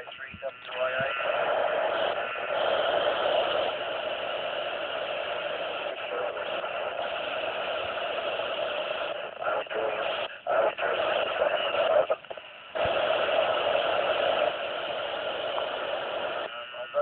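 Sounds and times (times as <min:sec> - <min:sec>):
radio static: 0:00.0 - 0:17.0.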